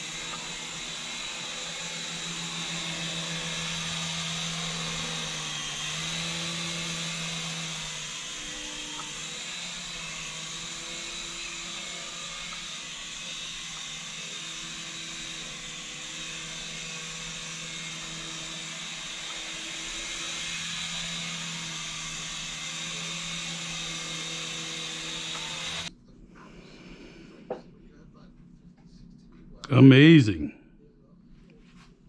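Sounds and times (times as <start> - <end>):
rotor blades whirring: 0.0 - 25.9
small electric motors whining: 0.0 - 25.9.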